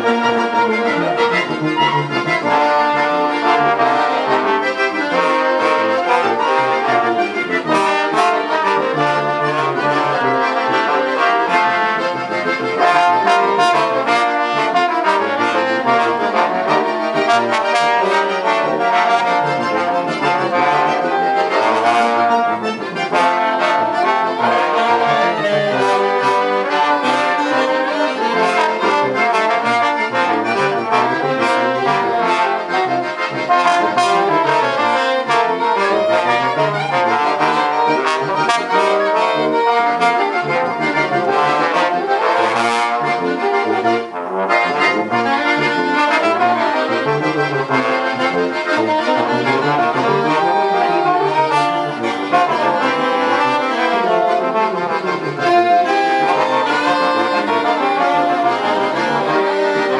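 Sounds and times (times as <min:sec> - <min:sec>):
brass and woodwind ensemble hymn: 0:00.0 - 0:59.9.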